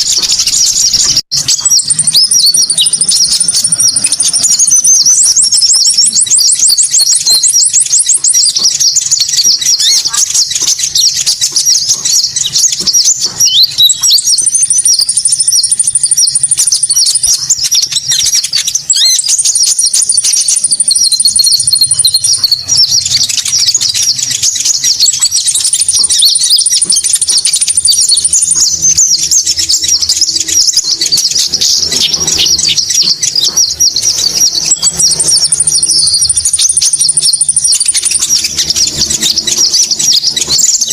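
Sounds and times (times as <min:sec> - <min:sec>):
birdsong chirps and twitters: 0:00.0 - 0:40.9.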